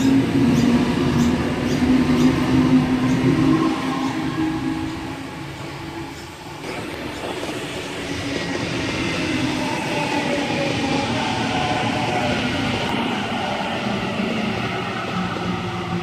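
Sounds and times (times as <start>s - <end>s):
electric train running: 0.0s - 16.0s.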